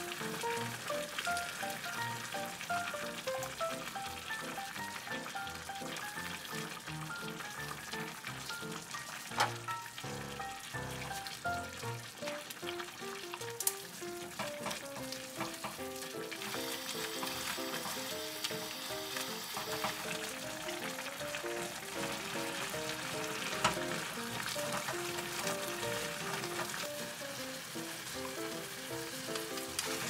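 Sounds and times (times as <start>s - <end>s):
light background music: 0.0s - 30.0s
noodles sizzling in a pan: 0.0s - 30.0s.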